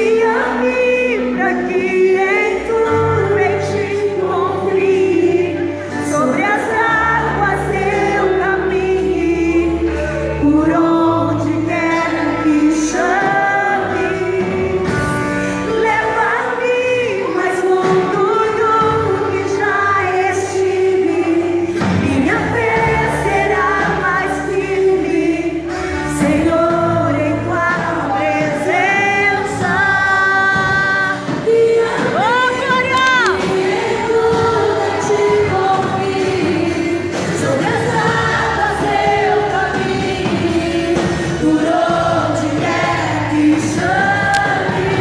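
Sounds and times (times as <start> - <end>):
band accompaniment with bass: 0.0 - 45.0
group singing gospel song: 0.0 - 45.0.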